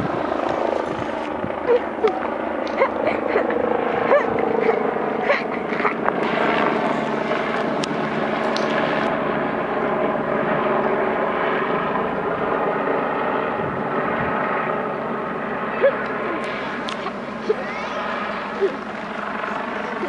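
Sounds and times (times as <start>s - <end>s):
helicopter rotor drone: 0.0s - 20.0s.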